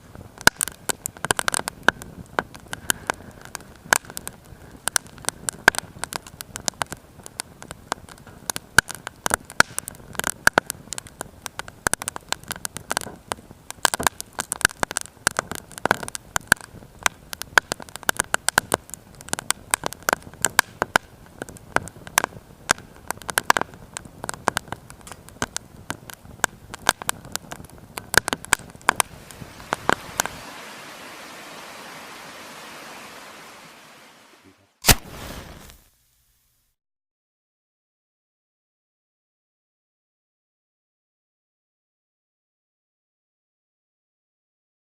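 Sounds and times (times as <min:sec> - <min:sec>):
firewood crackling and popping: 0:00.0 - 0:36.0
steady hiss: 0:00.0 - 0:36.8.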